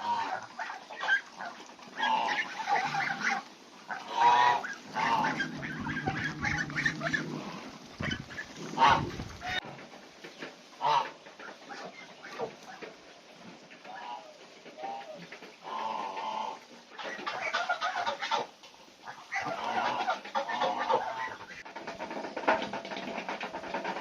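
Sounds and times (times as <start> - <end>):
geese honking: 0.0 - 9.6, 10.8 - 13.0, 13.8 - 22.2.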